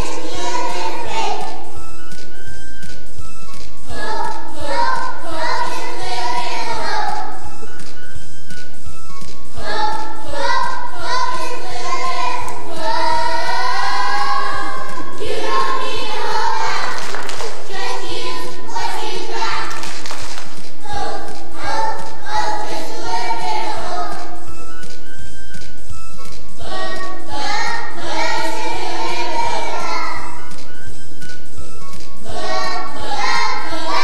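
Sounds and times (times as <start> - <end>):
children singing: 0.0 - 2.3, 3.8 - 7.8, 9.5 - 20.1, 20.7 - 25.0, 26.6 - 30.9, 32.2 - 34.0
instrumental accompaniment: 0.0 - 34.0.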